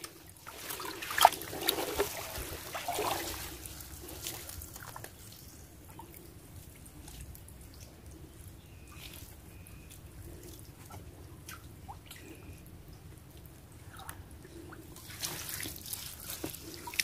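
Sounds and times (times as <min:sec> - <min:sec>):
muddy water splashing and sloshing: 0:00.0 - 0:17.0
water trickling and dripping: 0:00.0 - 0:17.0.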